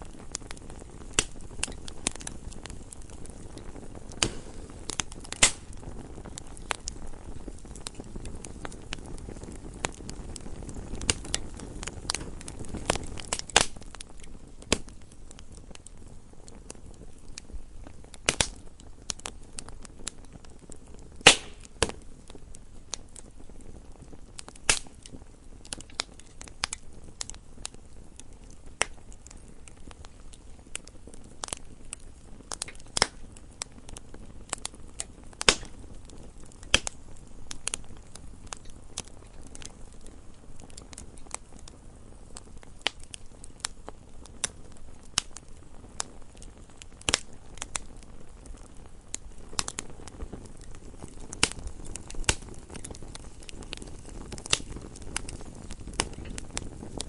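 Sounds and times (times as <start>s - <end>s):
low hiss of burning: 0.0s - 57.0s
wood fire crackling: 0.0s - 57.0s.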